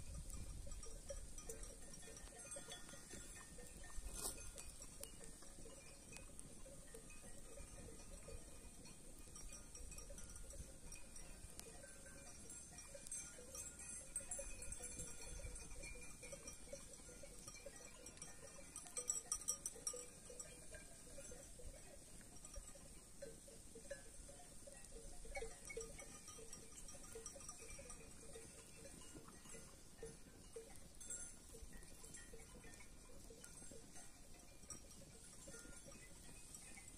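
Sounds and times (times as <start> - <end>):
sheep bells clanking: 0.0 - 36.9.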